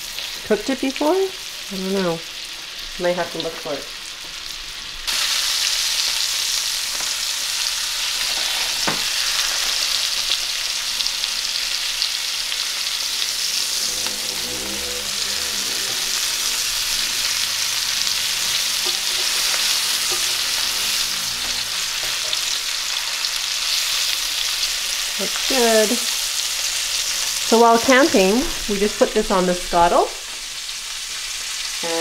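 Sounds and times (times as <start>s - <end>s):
fish sizzling in skillet: 0.0s - 32.0s.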